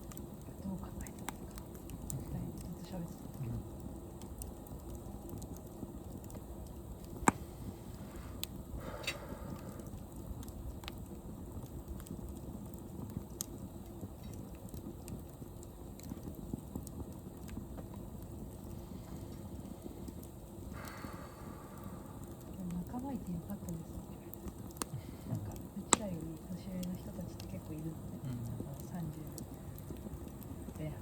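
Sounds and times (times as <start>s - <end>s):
bonfire crackling and popping: 0.0s - 31.0s
low rushing of fire: 0.0s - 31.0s.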